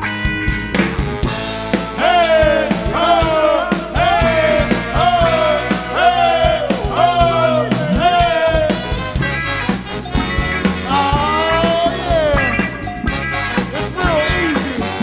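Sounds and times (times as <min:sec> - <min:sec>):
funk band playing: 0:00.0 - 0:15.0.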